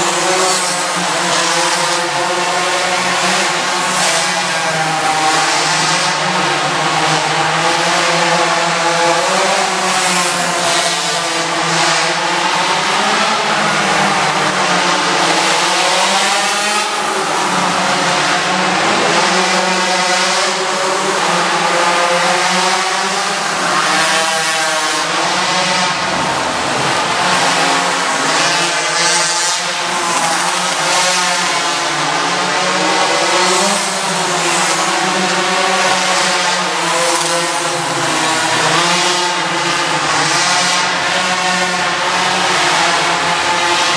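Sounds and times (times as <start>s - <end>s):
small motorbike engine revving: 6.9s - 43.9s.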